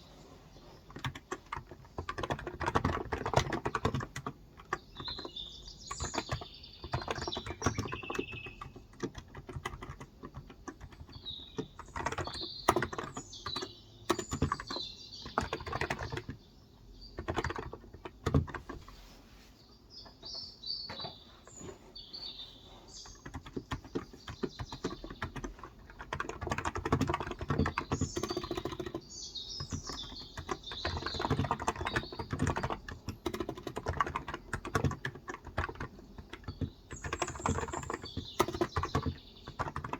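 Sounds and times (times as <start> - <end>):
birds chirping: 0.0 - 39.9
keyboard typing: 0.8 - 18.9, 23.0 - 39.9.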